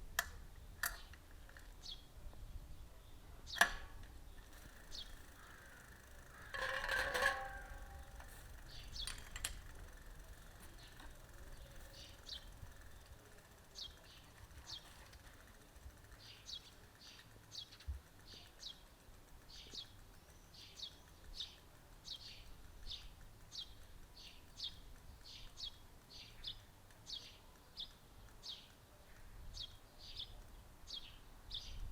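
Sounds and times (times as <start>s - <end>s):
faint low outdoor rumble: 0.0s - 31.9s
songbird chirping: 2.7s - 31.9s.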